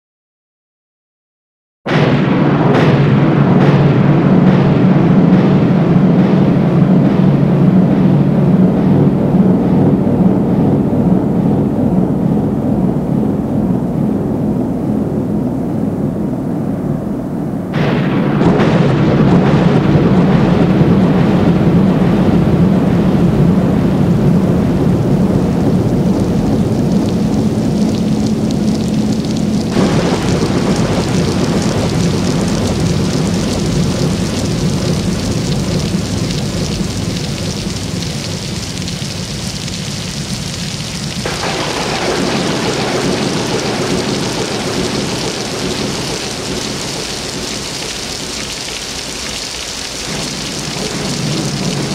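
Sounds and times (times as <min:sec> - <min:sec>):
steady rain: 0:01.9 - 0:16.9, 0:17.6 - 0:51.9
thunder rolling: 0:01.9 - 0:51.9.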